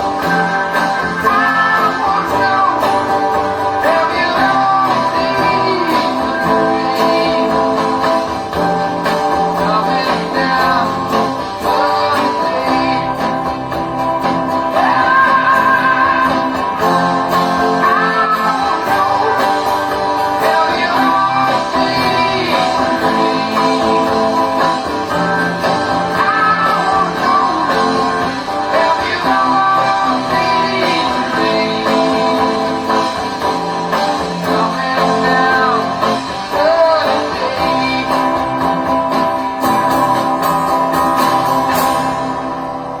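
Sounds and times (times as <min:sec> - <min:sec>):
guitar strummed chords: 0:00.0 - 0:43.0
person singing: 0:00.0 - 0:43.0.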